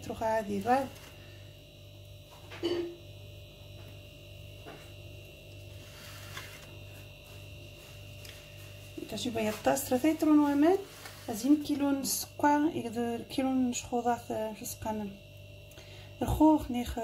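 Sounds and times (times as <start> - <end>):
pulsing electrical hum: 0.0 - 17.0.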